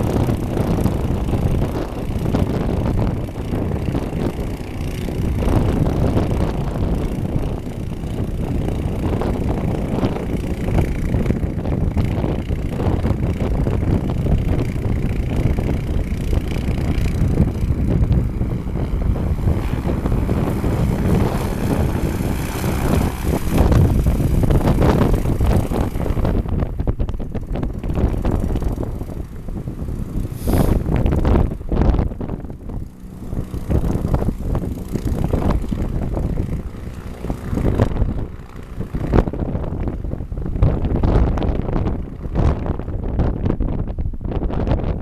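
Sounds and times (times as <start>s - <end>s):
airboat propeller engine running: 0.0s - 45.0s
wind buffeting microphone: 0.0s - 45.0s.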